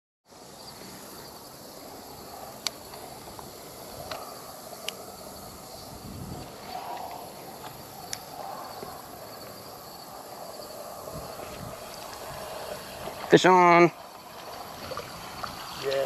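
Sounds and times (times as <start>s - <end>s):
steady low hiss: 0.3s - 16.0s.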